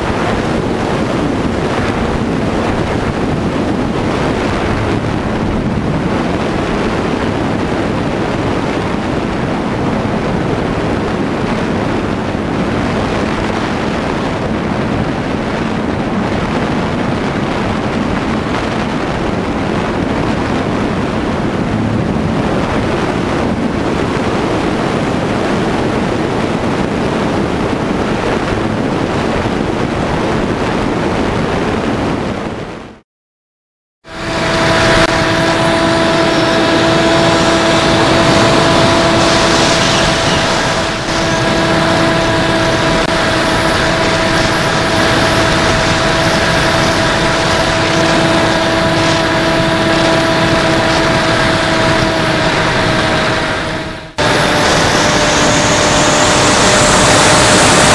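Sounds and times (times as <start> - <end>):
electric motor and propeller whining: 0.0 - 30.6, 34.0 - 57.9
wind rushing over camera: 0.0 - 33.0, 34.0 - 57.9.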